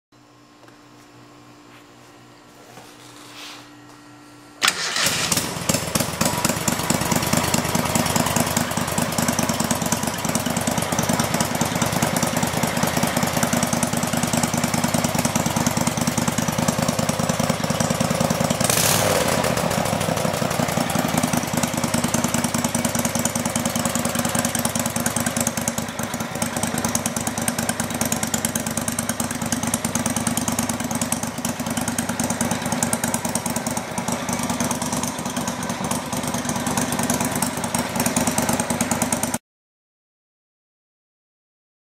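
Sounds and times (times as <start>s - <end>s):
loud engine running: 4.6s - 39.4s.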